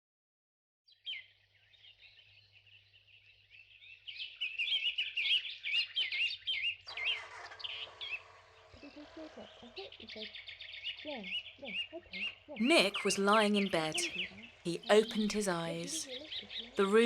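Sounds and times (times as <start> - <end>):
small birds chirping: 0.9 - 17.0.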